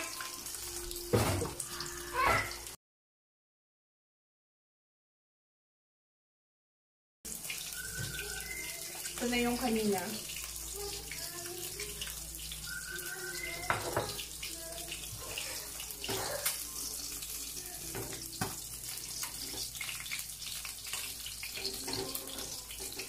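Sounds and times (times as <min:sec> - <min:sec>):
fish sizzling in hot oil: 0:00.0 - 0:02.8, 0:07.3 - 0:23.0.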